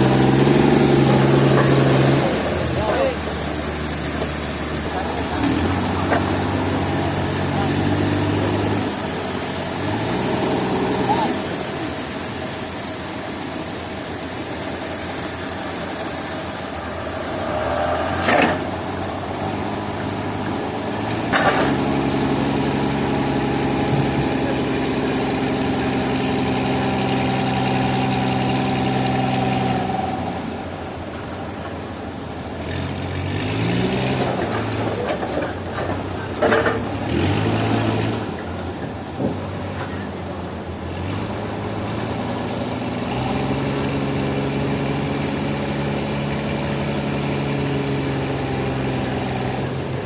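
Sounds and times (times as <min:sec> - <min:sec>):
engine running and revving: 0:00.0 - 0:12.6, 0:14.8 - 0:31.0, 0:32.4 - 0:40.2, 0:40.8 - 0:50.0.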